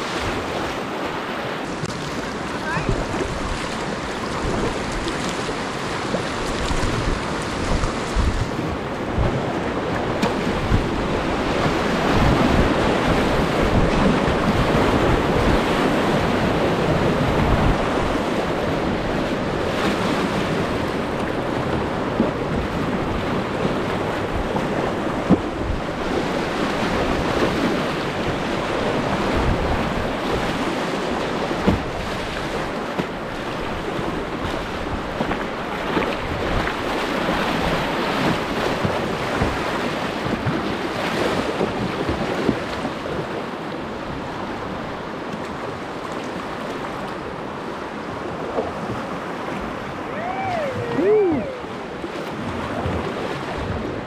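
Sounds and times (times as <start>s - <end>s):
wind buffeting microphone: 0.0s - 45.0s, 46.9s - 54.0s
rushing whitewater: 0.0s - 54.0s.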